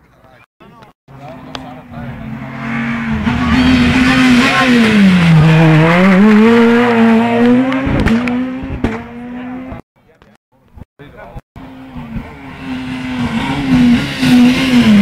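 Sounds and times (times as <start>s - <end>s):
rally car engine passing: 1.1s - 9.8s, 11.6s - 15.0s.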